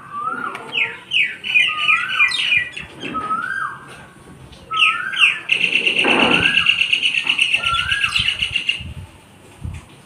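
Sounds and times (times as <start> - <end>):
whistled animal calls: 0.0 - 3.9, 4.7 - 8.8.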